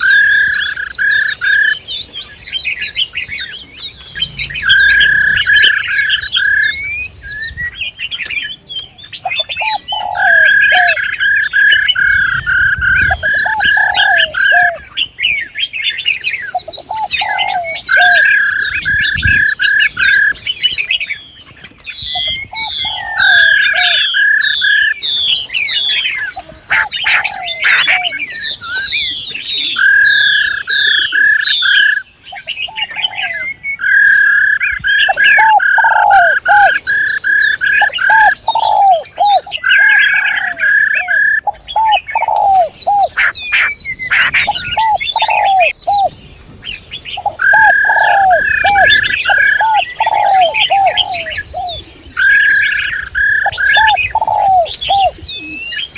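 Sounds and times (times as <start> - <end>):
high bird chirps and trills: 0.0 - 55.9
lower repeated bird calls: 0.0 - 55.9
repeated mid-pitched bird notes: 0.0 - 55.9.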